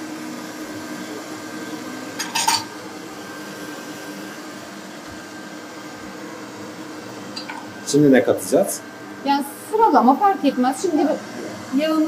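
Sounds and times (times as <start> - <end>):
stand mixer whisking batter: 0.0 - 12.0.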